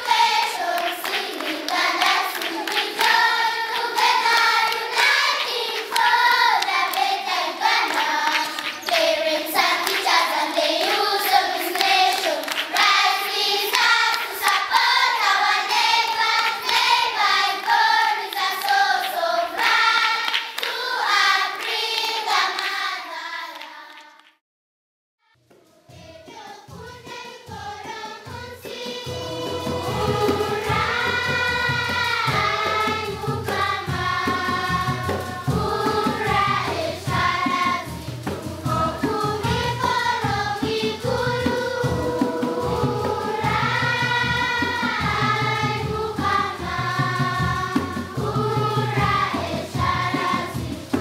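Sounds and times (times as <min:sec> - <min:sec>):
children singing in chorus: 0:00.0 - 0:24.1, 0:25.6 - 0:51.0
hand clapping: 0:00.0 - 0:24.4, 0:28.6 - 0:45.5.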